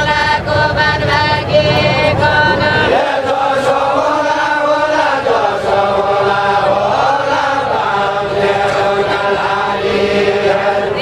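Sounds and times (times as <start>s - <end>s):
group of voices chanting: 0.0s - 11.0s.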